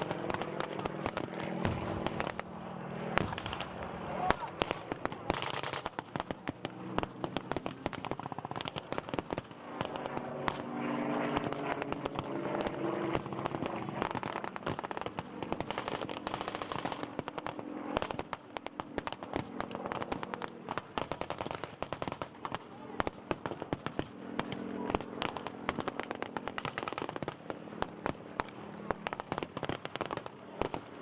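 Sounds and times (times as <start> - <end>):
rapid blank gunfire: 0.0 - 10.7, 11.3 - 31.0.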